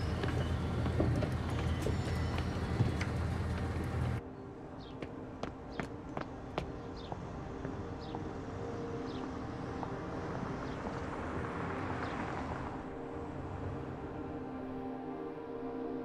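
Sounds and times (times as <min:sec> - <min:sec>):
low ambient drone: 0:00.0 - 0:16.0.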